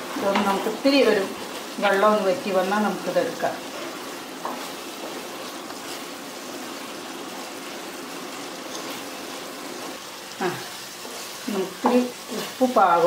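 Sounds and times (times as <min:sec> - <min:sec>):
wooden spatula stirring: 0:00.0 - 0:10.1, 0:10.8 - 0:13.0
food sizzling in a pot: 0:00.0 - 0:13.0.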